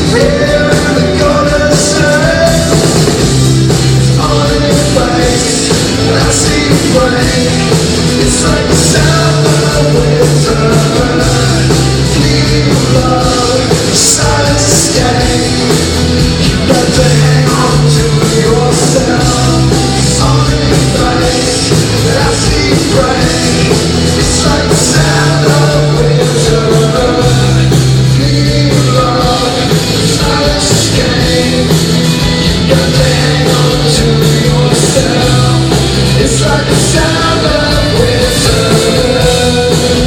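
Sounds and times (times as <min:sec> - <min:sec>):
bass guitar: 0:00.0 - 0:40.0
distorted guitars: 0:00.0 - 0:40.0
drums: 0:00.0 - 0:40.0
man singing lead vocal: 0:00.0 - 0:40.0.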